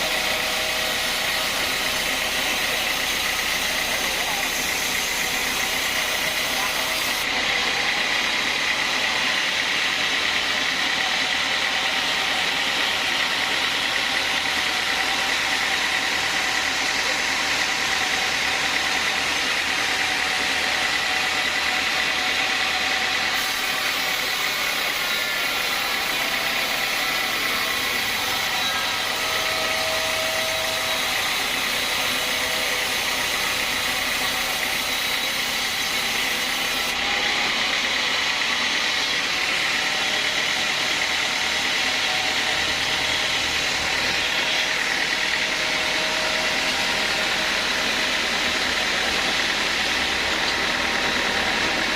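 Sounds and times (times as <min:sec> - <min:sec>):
bandsaw whining: 0:00.0 - 0:51.9.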